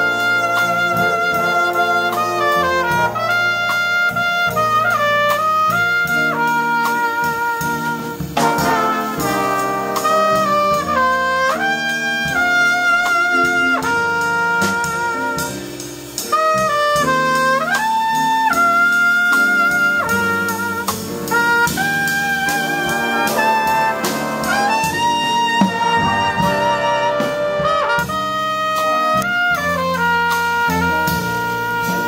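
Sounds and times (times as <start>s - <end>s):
brass band playing chords: 0.0s - 32.0s.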